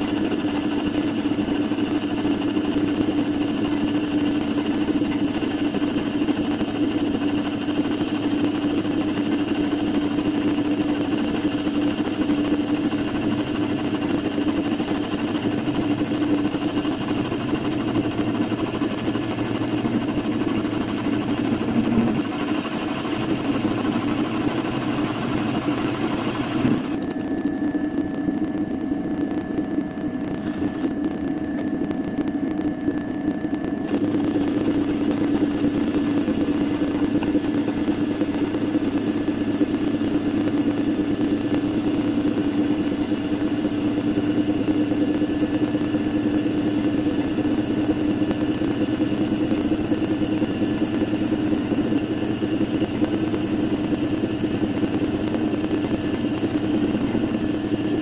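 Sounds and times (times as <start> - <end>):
metal lathe hum and whine: 0.0 - 32.5, 33.1 - 58.0.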